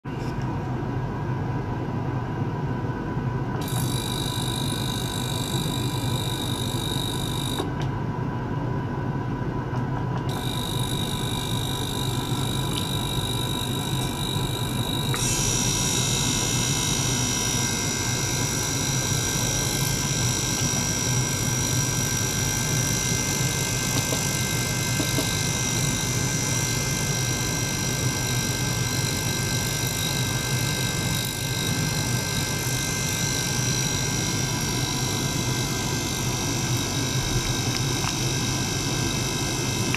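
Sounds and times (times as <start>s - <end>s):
pump mechanical hum: 0.1s - 39.9s
high whine: 2.7s - 7.9s, 10.2s - 39.9s
ultrasonic cleaner buzz: 3.6s - 7.8s, 10.2s - 39.9s.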